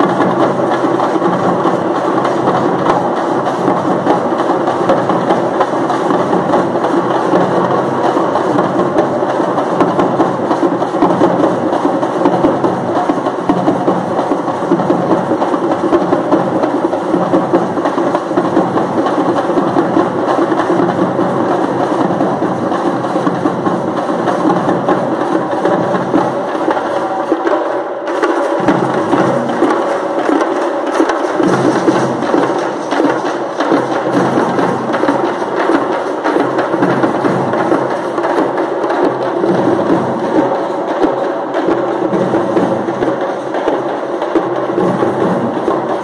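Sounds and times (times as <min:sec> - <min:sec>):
frame drums beaten with sticks: 0:00.0 - 0:46.0.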